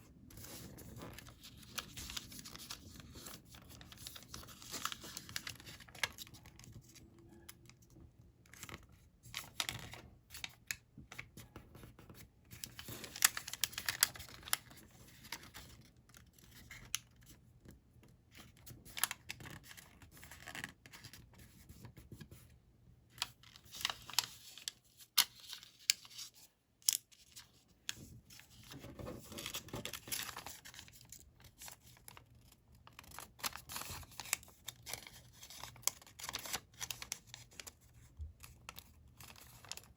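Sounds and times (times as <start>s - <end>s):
paper rustling and crinkling: 0.3s - 7.8s, 8.5s - 17.3s, 23.2s - 39.9s.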